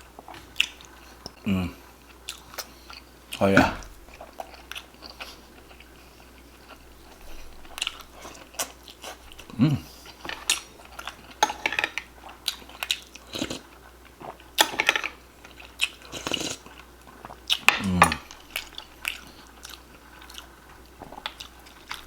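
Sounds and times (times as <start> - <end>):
person chewing: 0.0 - 22.0.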